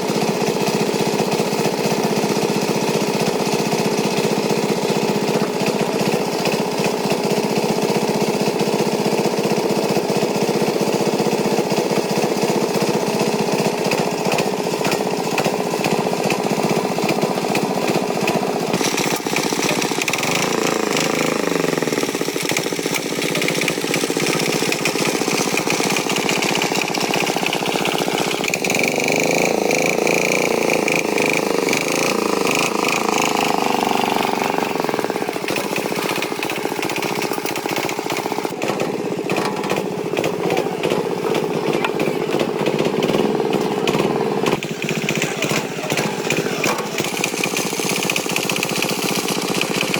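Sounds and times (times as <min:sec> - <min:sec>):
tractor engine clattering: 0:00.0 - 0:49.9.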